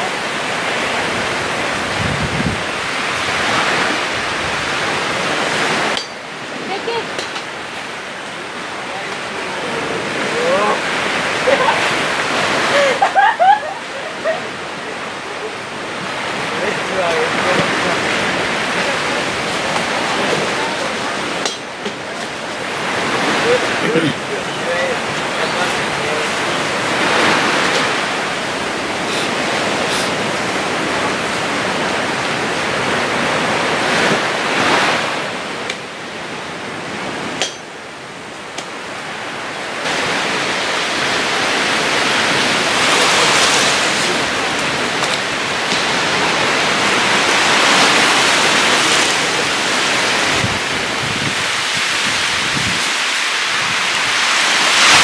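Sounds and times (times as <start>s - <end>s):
water rushing and sloshing: 0.0s - 55.0s.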